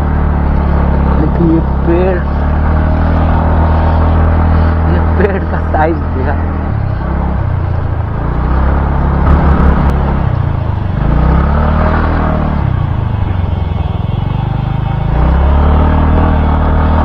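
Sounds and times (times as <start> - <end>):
motorcycle engine revving: 0.0 - 17.0
wind and road noise: 0.0 - 17.0.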